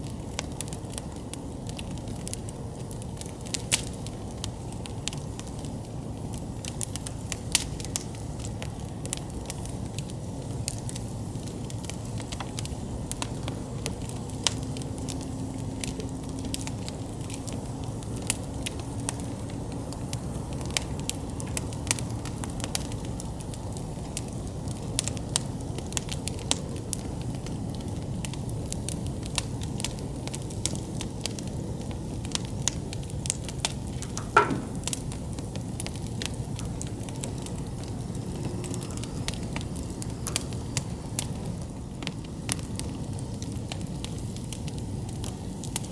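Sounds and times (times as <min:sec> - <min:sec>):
burning wood crackling: 0:00.0 - 0:45.9
campfire flame rushing: 0:00.0 - 0:45.9.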